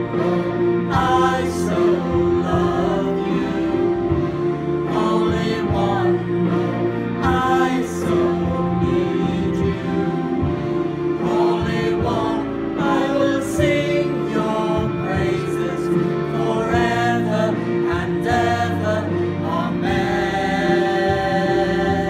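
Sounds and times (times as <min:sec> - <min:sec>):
group singing worship song: 0:00.0 - 0:22.0.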